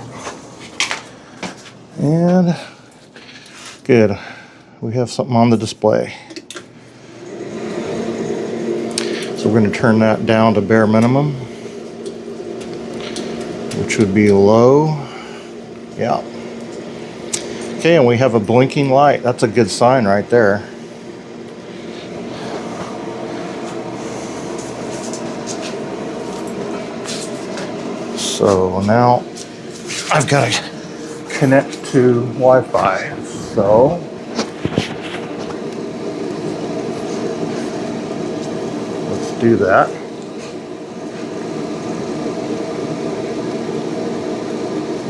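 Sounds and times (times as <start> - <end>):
grill motor hum and fan whir: 0.0 - 45.0.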